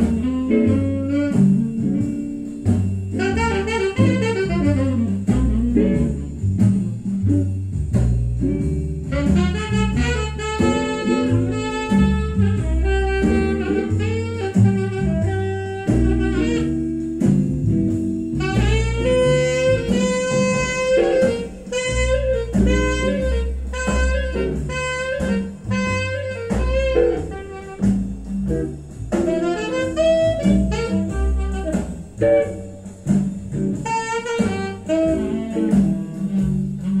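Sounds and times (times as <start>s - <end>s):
jazz with saxophone and bass: 0.0s - 37.0s.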